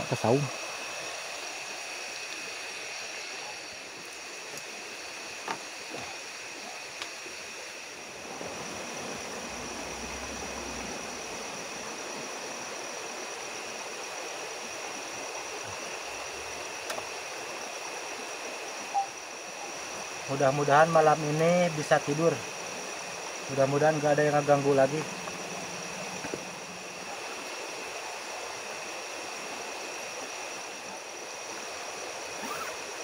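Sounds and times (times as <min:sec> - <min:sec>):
night insects droning: 0:00.0 - 0:33.0
river water rushing: 0:00.0 - 0:33.0.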